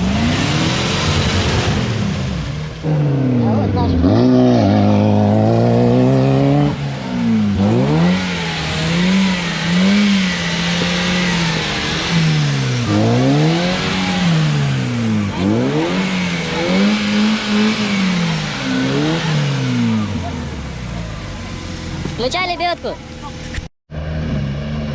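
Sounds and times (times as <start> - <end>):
off-road vehicle engine revving: 0.0 - 24.9.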